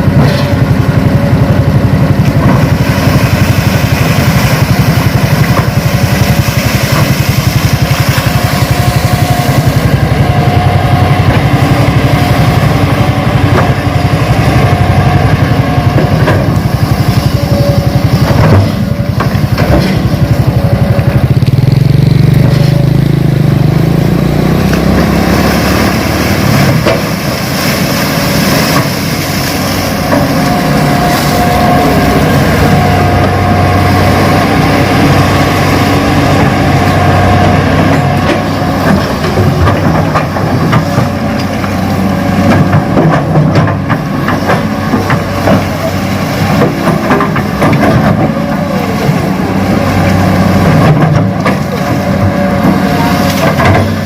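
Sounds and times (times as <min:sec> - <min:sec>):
model excavator engine running: 0:00.0 - 0:54.0.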